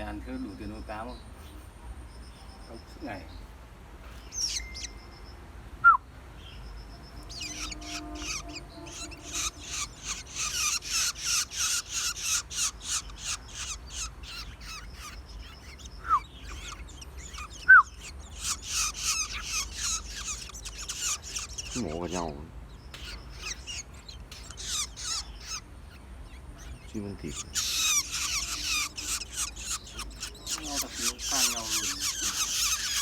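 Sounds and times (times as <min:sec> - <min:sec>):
downward-sliding bird chirps: 0:04.1 - 0:05.3, 0:07.1 - 0:33.0
shrikes harsh rasping calls: 0:04.2 - 0:05.3, 0:06.4 - 0:33.0.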